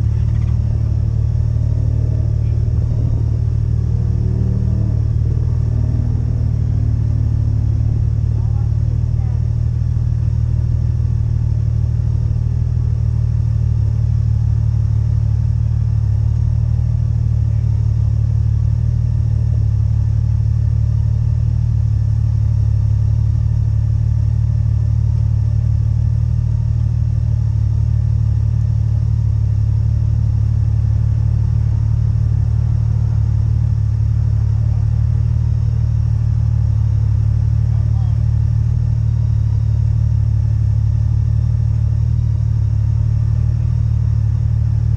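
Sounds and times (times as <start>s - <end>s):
motorcycle engines idling: 0.0s - 44.9s.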